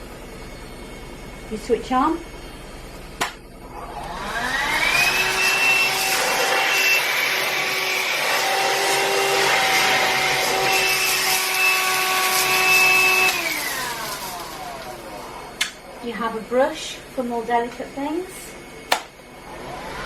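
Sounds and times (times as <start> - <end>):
handheld vacuum running: 3.6 - 20.0.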